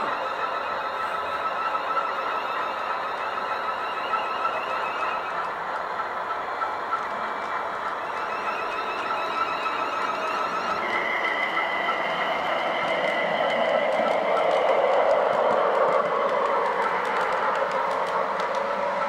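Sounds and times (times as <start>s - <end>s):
model train motor whine: 0.0s - 19.0s
train wheels clicking: 0.0s - 19.0s.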